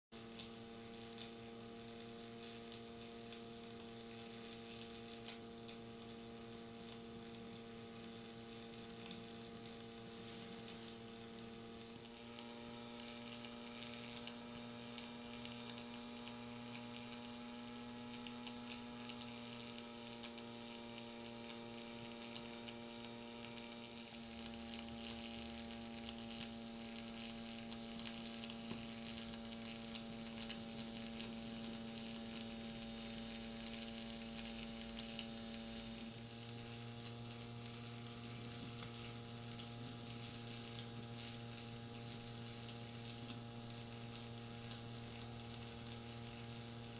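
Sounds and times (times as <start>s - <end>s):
boiling water crackling ticks: 0.2s - 46.9s.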